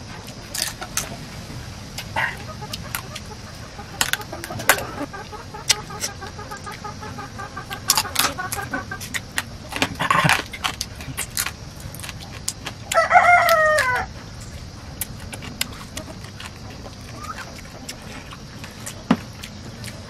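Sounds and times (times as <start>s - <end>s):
hen clucking: 0.0s - 20.0s
person eating crunchy fried food: 0.2s - 1.2s, 2.0s - 20.0s.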